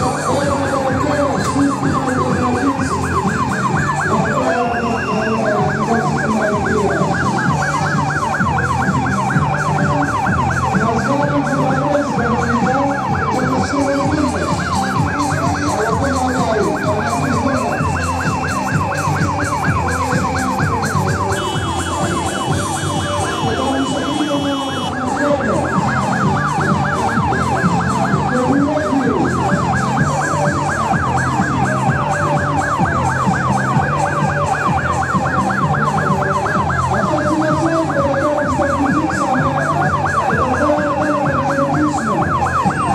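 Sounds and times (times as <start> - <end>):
ambulance siren yelping: 0.0 - 42.9
murmur of crowd: 0.0 - 42.9.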